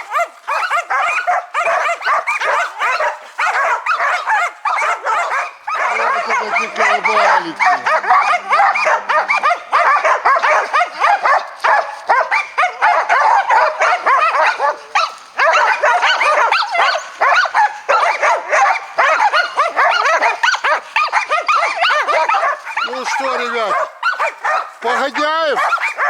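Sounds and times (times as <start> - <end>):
dogs barking: 0.0 - 26.0.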